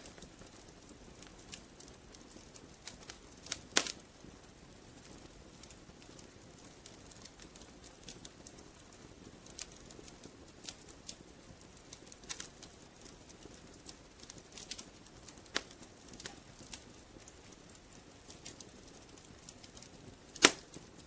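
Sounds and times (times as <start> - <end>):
fire popping and snapping: 0.0 - 21.0
low steady hiss: 0.0 - 21.0
wood fire crackling: 0.0 - 21.0.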